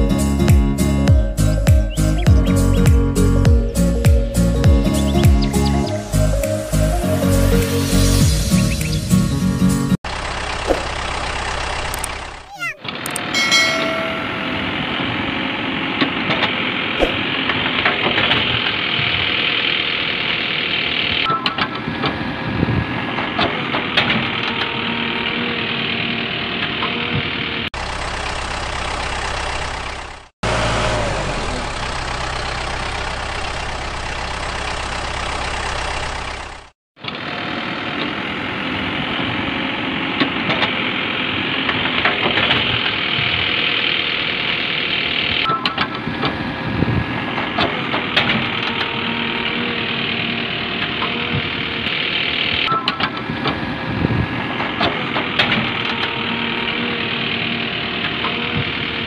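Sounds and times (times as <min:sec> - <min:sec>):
heavy vehicle engine: 0:00.0 - 0:59.0.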